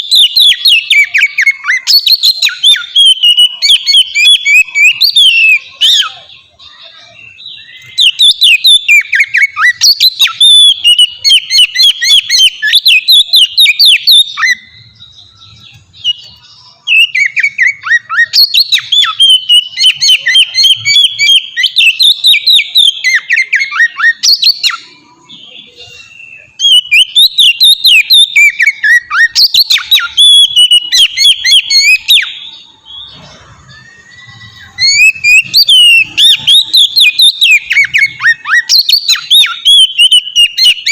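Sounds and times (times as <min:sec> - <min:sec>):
bird singing whistles and chatter: 0:00.0 - 0:40.9.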